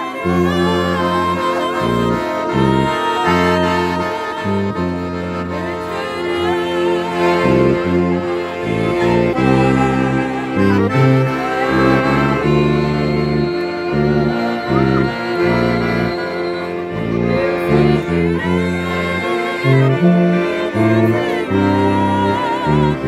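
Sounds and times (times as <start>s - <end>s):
accordion playing a tune: 0.0s - 23.0s.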